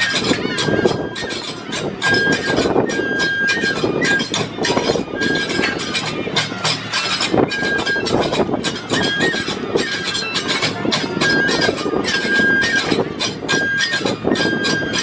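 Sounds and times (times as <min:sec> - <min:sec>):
bamboo flute long notes: 0:00.0 - 0:15.0
drum beats: 0:00.0 - 0:15.0
hand cymbals clashing: 0:00.0 - 0:15.0.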